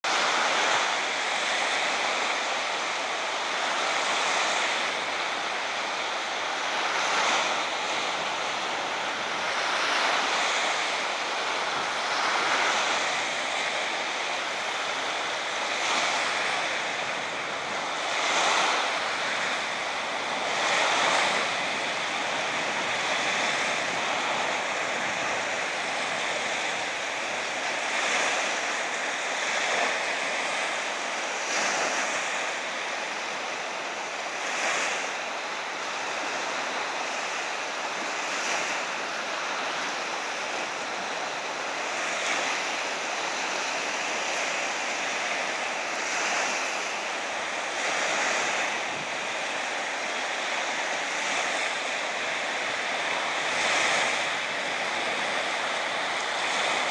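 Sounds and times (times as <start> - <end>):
waves breaking on beach: 0.0 - 56.9.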